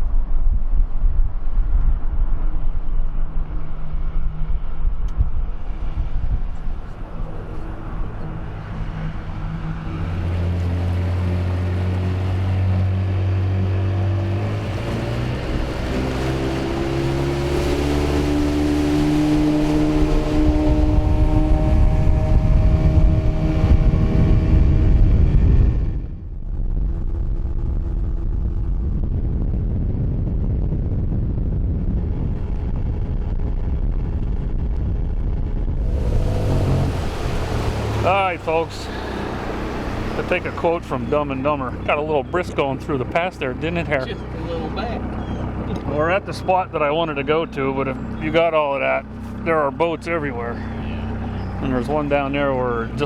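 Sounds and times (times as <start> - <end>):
water noise: 0.0 - 29.8, 31.1 - 53.0
wind: 0.0 - 53.0
motorboat engine running: 0.2 - 53.0.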